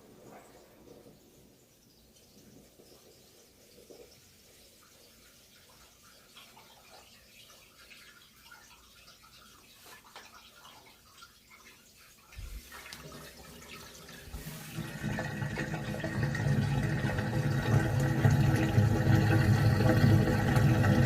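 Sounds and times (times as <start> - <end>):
washing machine water rushing: 2.2 - 21.0.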